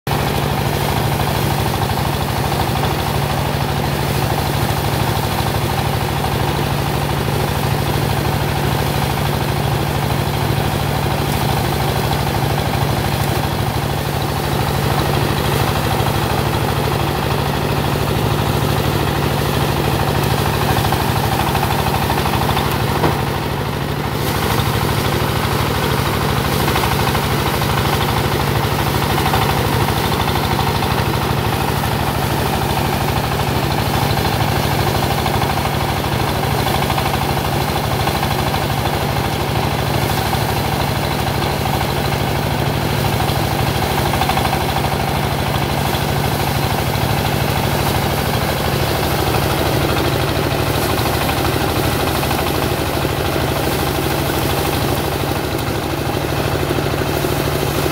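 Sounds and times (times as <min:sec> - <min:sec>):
diesel engine running: 0:00.1 - 0:57.9.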